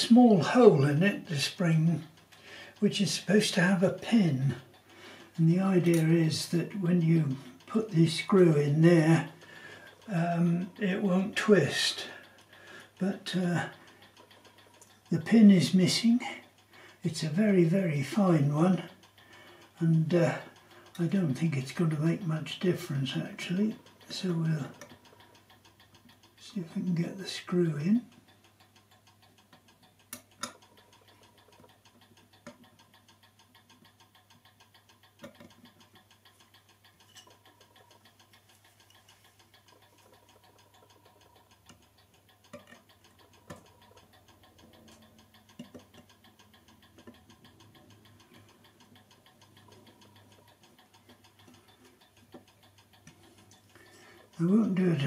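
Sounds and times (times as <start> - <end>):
clock ticking: 0.0 - 55.0
small metallic clicks: 0.0 - 55.0.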